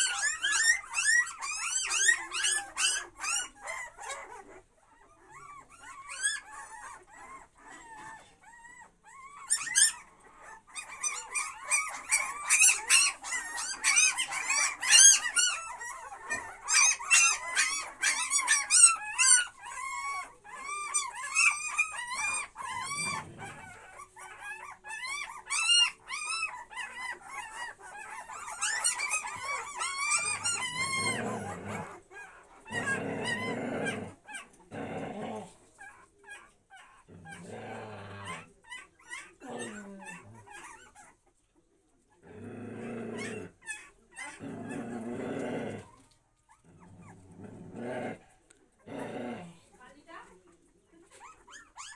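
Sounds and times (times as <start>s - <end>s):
puppies whining and yelping: 0.0s - 49.1s, 49.7s - 51.9s.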